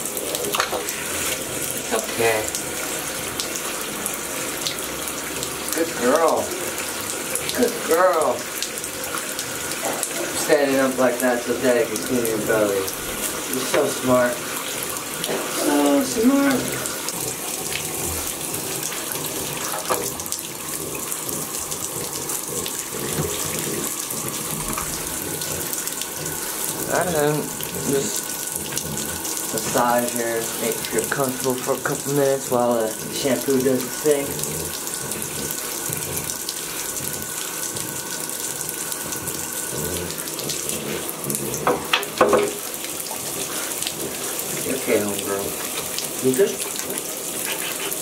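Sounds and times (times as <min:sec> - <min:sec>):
water running into bathtub: 0:00.0 - 0:48.0
water splashes: 0:00.0 - 0:48.0.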